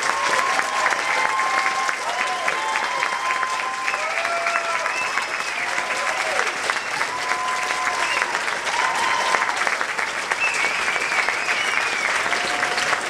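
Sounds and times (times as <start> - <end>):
audience clapping: 0.0 - 13.0.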